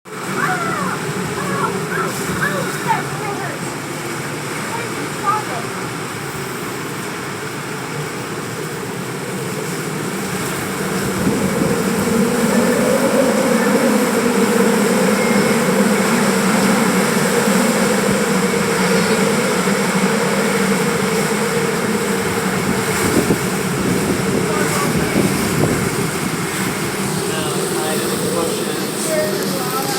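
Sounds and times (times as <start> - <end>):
strong wind roaring: 0.1 - 29.9.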